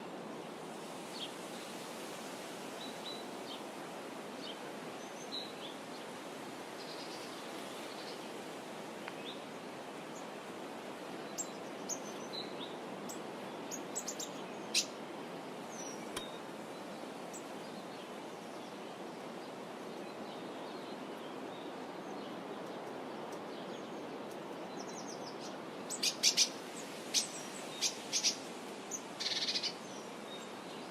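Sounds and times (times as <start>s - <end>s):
steady rushing hiss: 0.0s - 20.4s, 21.6s - 30.9s.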